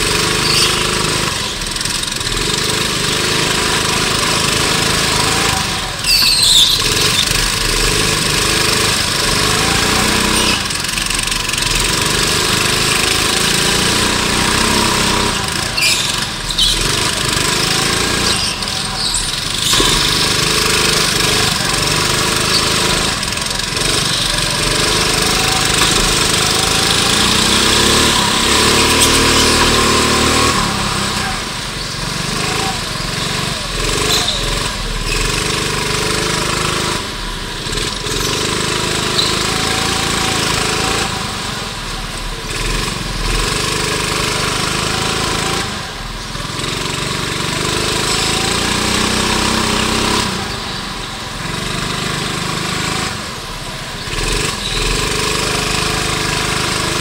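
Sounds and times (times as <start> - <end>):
kart engine running hard: 0.0 - 57.0
other kart engines: 0.0 - 57.0.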